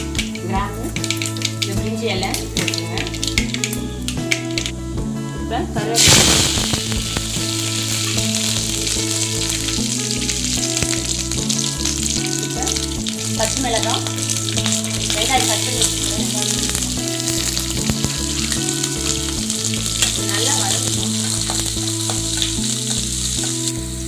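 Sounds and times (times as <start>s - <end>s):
spices sizzling in hot oil: 0.0s - 4.8s, 6.0s - 24.0s.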